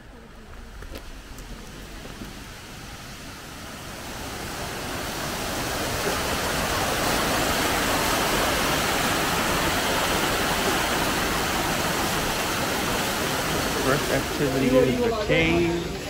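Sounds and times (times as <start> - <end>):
waterfall cascading over rocks: 0.7 - 16.0.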